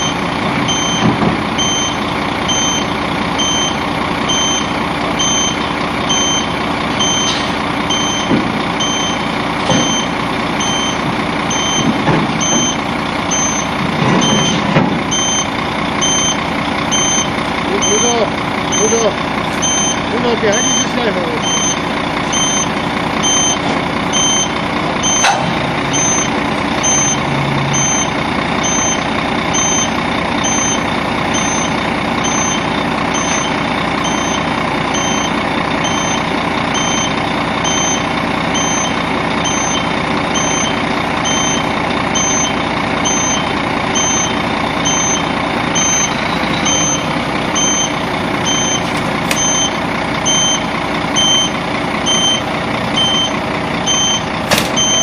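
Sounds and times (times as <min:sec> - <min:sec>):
diesel truck engine idling: 0:00.0 - 0:55.0
high-pitched warning beeper: 0:00.0 - 0:55.0.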